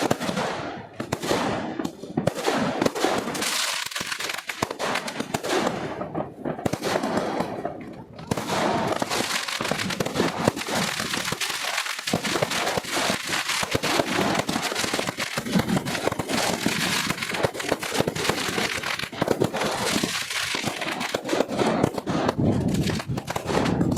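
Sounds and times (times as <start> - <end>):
fireworks crackling and banging: 0.0 - 23.9.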